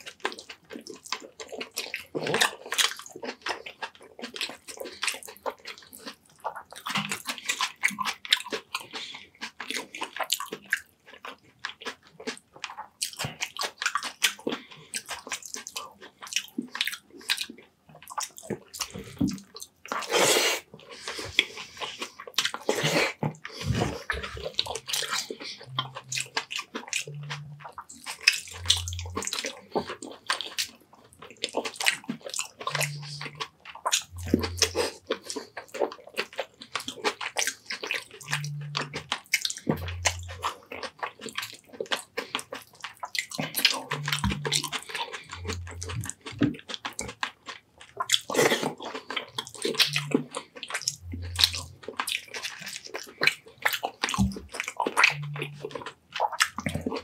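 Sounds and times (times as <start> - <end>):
wet chewing and lip-smacking: 0.0 - 57.0.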